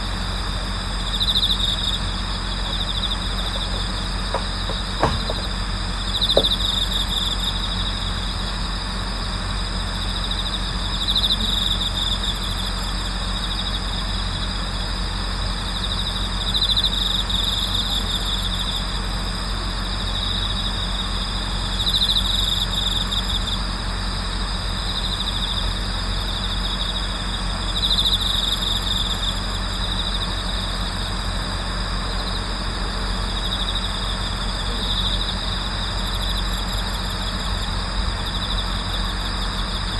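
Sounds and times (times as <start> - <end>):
crickets trilling: 0.0 - 39.9
low steady hum: 0.0 - 39.9.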